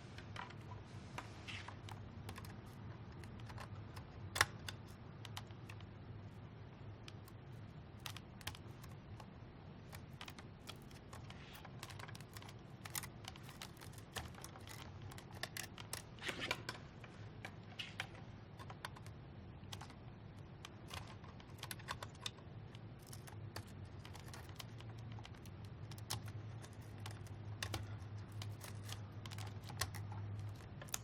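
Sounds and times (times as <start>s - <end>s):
clicks of plastic and metal parts: 1.5s - 5.9s, 8.0s - 9.3s, 9.9s - 16.8s, 17.4s - 31.0s.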